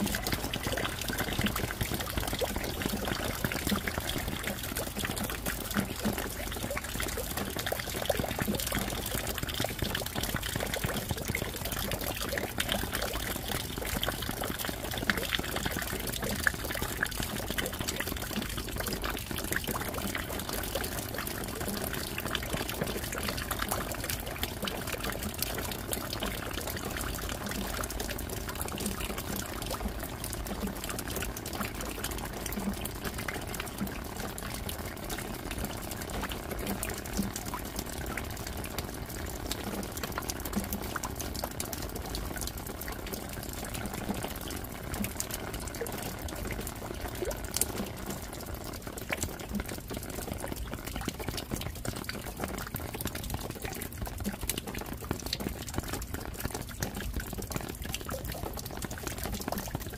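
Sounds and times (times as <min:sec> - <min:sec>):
steady rain falling: 0:00.0 - 0:59.9
water drops dripping: 0:00.0 - 0:59.9.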